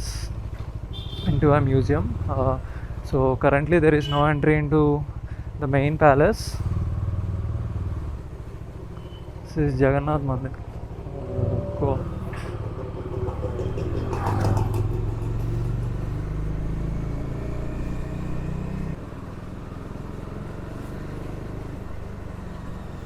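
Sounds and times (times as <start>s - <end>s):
motorcycle engine running: 0.3s - 3.8s, 4.6s - 23.0s.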